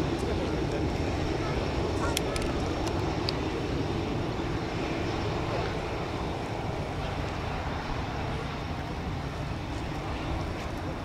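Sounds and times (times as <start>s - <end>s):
jet engines running at low power: 0.0s - 11.0s.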